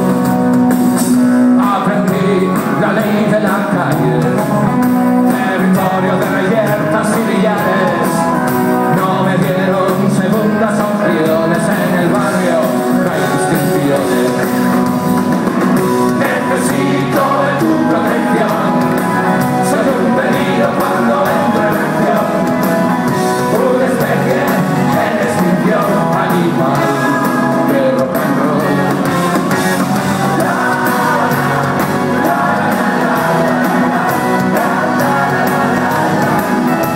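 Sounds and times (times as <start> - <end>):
live rock band playing: 0.0 - 36.9
man singing: 1.2 - 15.0, 15.8 - 36.9.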